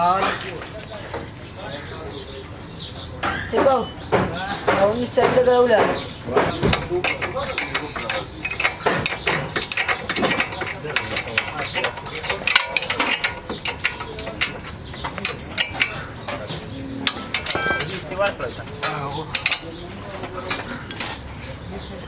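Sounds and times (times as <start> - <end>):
metal hand tools clattering: 3.2 - 21.3.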